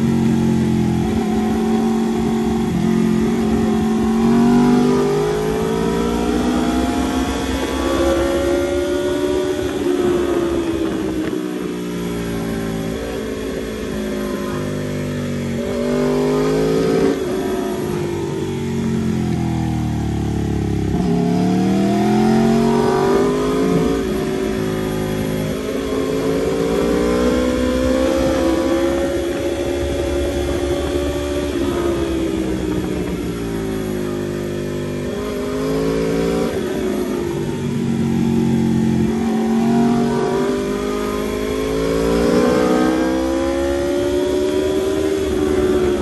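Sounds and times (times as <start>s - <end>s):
wind noise: 0.0s - 14.8s, 20.8s - 46.0s
motorcycle engine revving: 0.0s - 46.0s.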